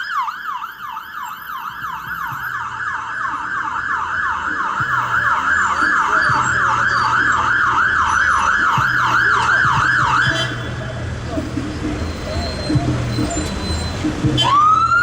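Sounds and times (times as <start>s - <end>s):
ambulance siren fast yelp: 0.0s - 10.7s, 12.0s - 15.0s.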